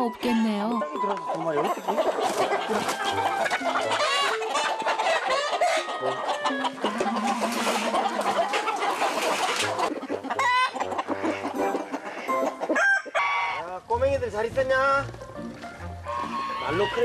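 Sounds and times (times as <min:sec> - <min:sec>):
chickens clucking and squawking: 0:00.0 - 0:17.0.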